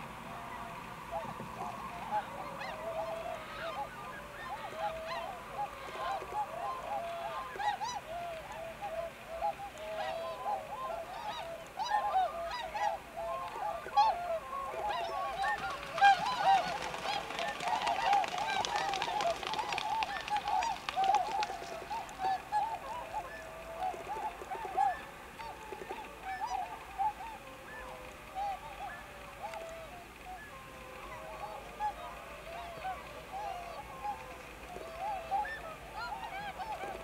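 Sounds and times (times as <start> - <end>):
splashing and wingbeats: 0.0 - 37.0
swans honking: 0.0 - 37.0.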